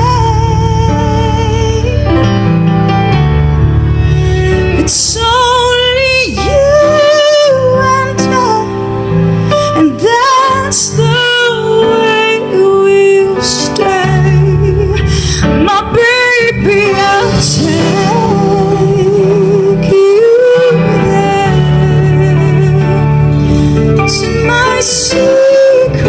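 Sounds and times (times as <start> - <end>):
woman singing into a microphone: 0.0 - 2.5, 4.0 - 26.0
low bass notes: 0.0 - 11.9, 12.6 - 26.0
keyboard: 0.0 - 26.0.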